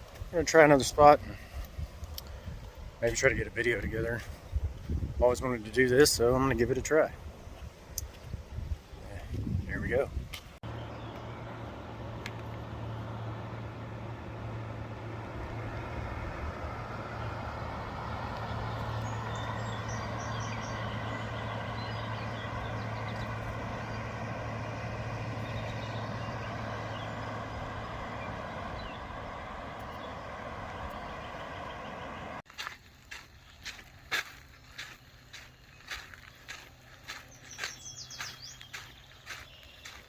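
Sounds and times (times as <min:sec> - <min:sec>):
road noise: 0:00.0 - 0:40.0
vehicle engine hum: 0:00.0 - 0:40.0.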